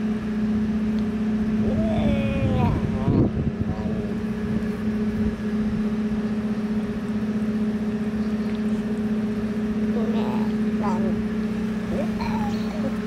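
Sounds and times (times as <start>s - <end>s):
steady machine hum: 0.0s - 13.0s
low rumble: 1.3s - 12.8s.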